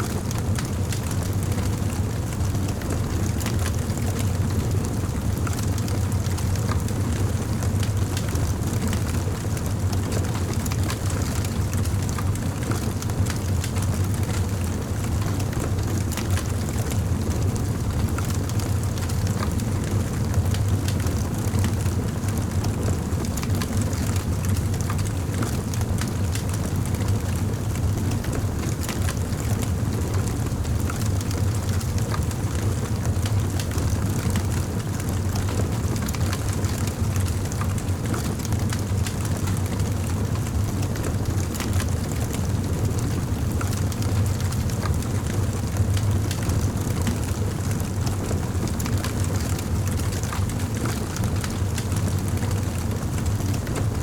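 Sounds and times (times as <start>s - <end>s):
low rumble of fire: 0.0s - 54.0s.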